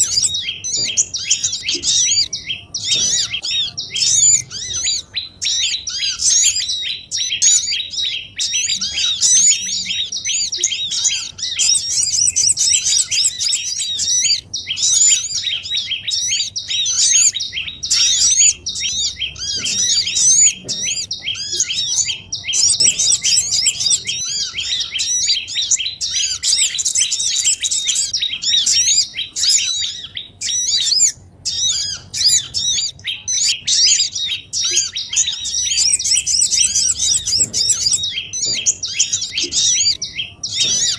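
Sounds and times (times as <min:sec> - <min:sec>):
flock of songbirds chirping: 0:00.0 - 0:40.9.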